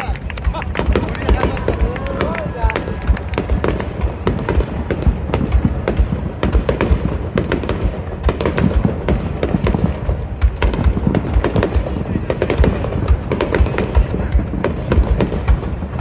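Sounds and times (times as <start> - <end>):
fireworks bangs and crackles: 0.0 - 16.0
rumble of booms: 0.8 - 16.0.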